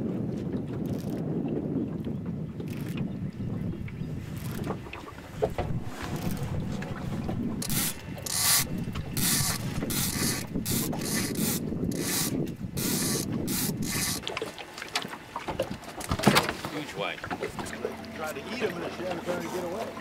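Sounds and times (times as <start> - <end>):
low rumble of wind: 0.0 - 20.0
water: 0.0 - 20.0.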